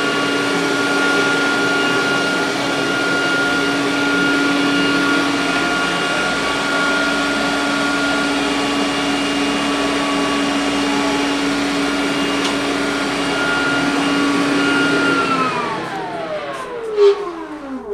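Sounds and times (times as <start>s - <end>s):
robot vacuum motor whine: 0.0s - 17.9s.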